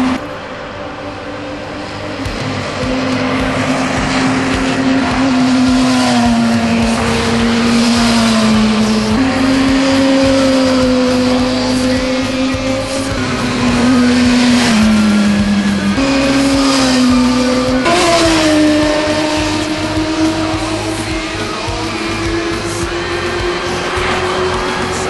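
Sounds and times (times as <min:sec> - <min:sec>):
background music: 0:00.0 - 0:25.0
motorcycle engine revving high: 0:00.0 - 0:25.0.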